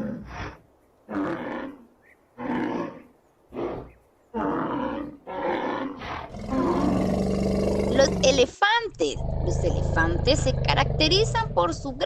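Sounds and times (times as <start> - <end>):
rhinoceros grunting: 0.0 - 8.4, 9.0 - 12.0.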